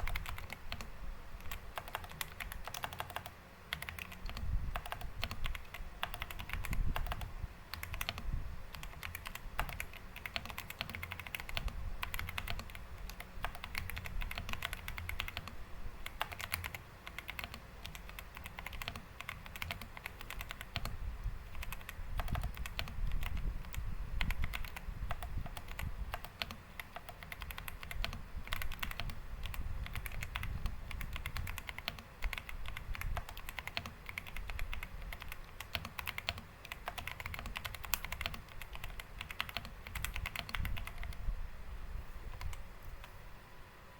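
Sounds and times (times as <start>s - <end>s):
mechanical keyboard typing: 0.0s - 41.3s, 42.3s - 43.2s.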